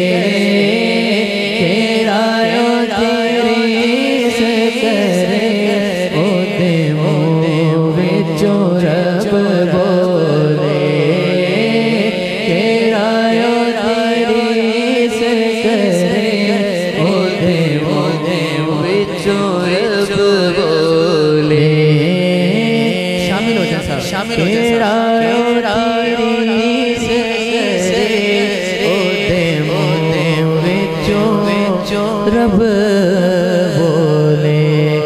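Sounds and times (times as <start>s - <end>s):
man singing into a microphone: 0.0s - 35.0s.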